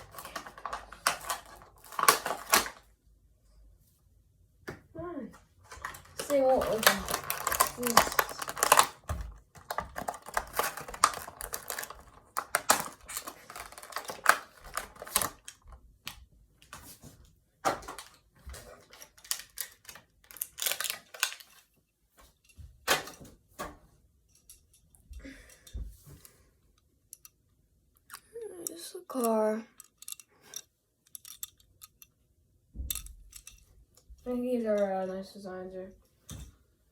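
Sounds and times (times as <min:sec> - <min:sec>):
hard plastic clicking and crinkling: 0:00.0 - 0:02.9, 0:05.4 - 0:16.9, 0:17.6 - 0:21.7, 0:22.4 - 0:32.2, 0:32.8 - 0:35.0.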